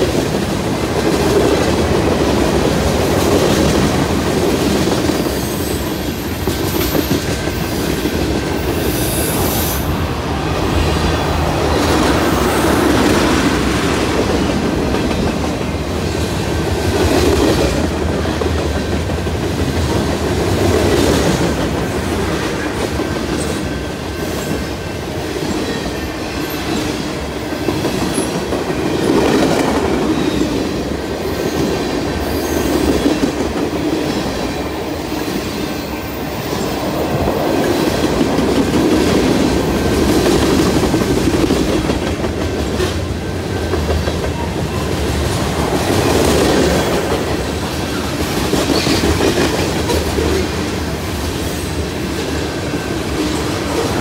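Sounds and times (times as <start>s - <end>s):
train wheels clickety-clack on rail: 0.0s - 54.0s.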